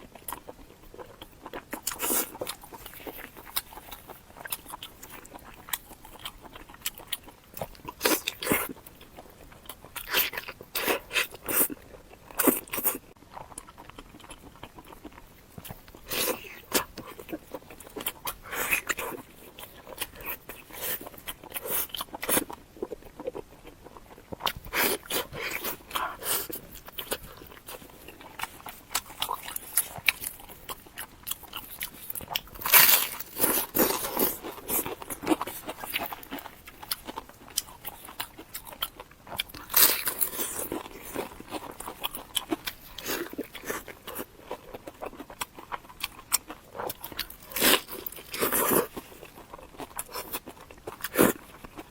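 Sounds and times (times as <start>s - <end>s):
crunchy food being chewed: 0.0s - 51.9s.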